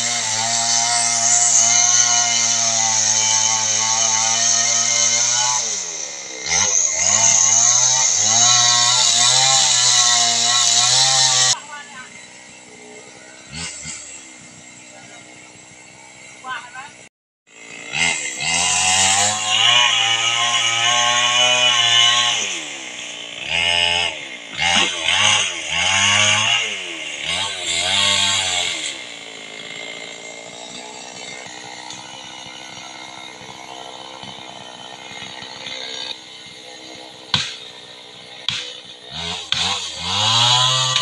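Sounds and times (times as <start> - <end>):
chainsaw revving and idling: 0.0 - 41.0.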